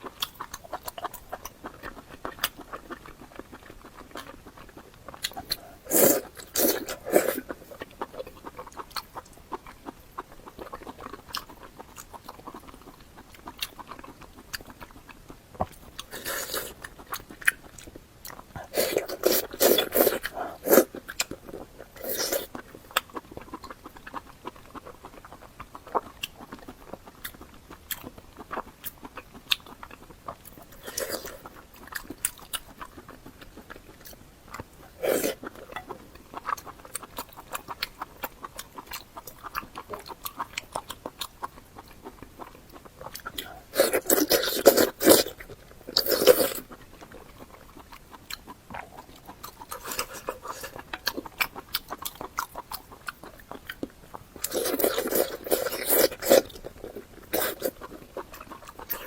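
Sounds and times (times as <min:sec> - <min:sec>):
wet mouth clicks chewing: 0:00.0 - 0:59.0.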